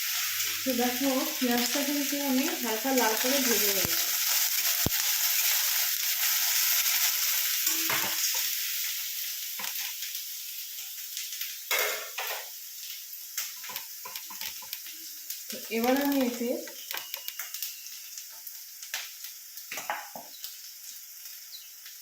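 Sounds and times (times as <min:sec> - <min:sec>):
paste sizzling in a pan: 0:00.0 - 0:22.0.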